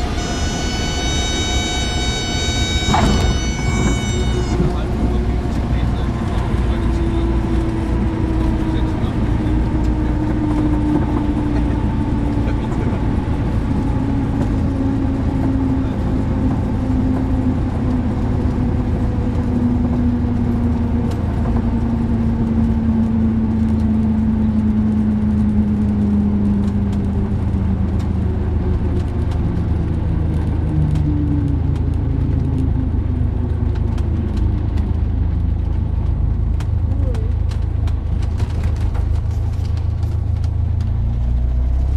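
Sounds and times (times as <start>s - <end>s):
light aircraft propeller engine: 0.0s - 41.9s.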